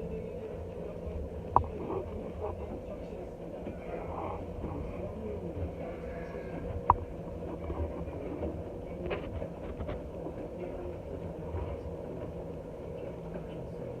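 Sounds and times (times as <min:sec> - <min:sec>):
washing machine rumbling: 0:00.0 - 0:14.0.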